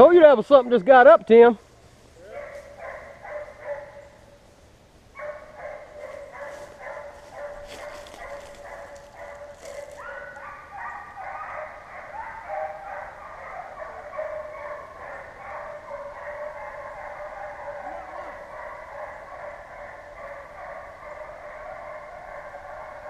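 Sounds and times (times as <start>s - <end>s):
hounds baying and barking: 2.2s - 4.4s, 5.1s - 23.0s.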